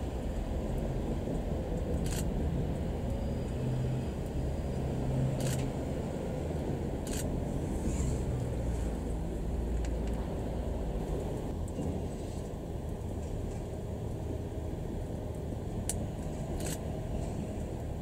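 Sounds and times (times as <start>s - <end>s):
diesel railcar rumble: 0.0s - 18.0s.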